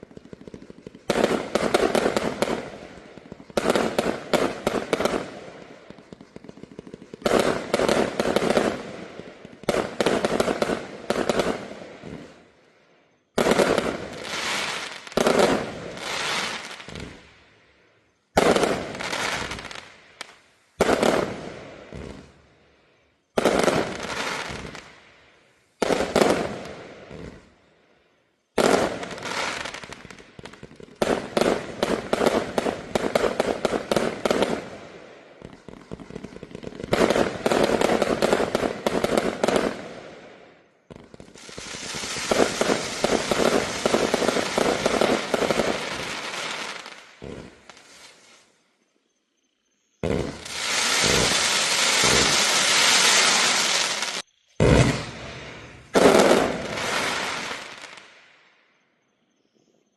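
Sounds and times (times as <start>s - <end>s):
fireworks firing rapid shots: 0.0s - 12.4s, 13.4s - 17.2s, 18.4s - 19.9s, 20.8s - 22.3s, 23.4s - 24.9s, 25.8s - 27.4s, 28.6s - 40.3s, 40.9s - 48.1s, 50.0s - 58.0s.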